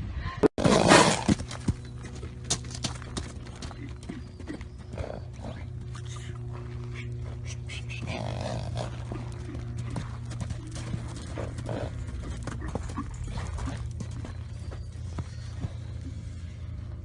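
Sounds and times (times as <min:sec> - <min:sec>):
low hum: 0:00.0 - 0:17.0
horse hooves clopping: 0:00.6 - 0:17.0.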